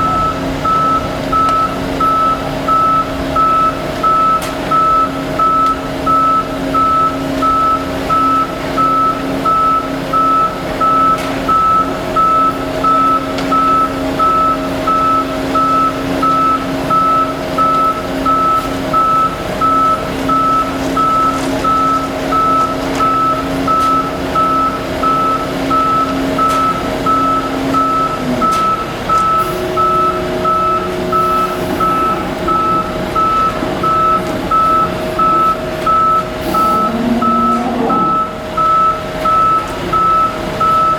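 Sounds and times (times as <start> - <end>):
reversing alarm beeping: 0.0 - 40.9
truck engine droning: 0.0 - 40.9.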